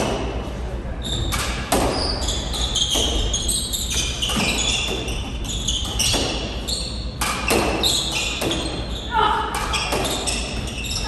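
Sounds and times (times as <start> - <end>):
squash ball striking rackets and walls: 0.0 - 0.4, 1.1 - 11.0
shoes squeaking on hardwood floor: 1.0 - 11.0.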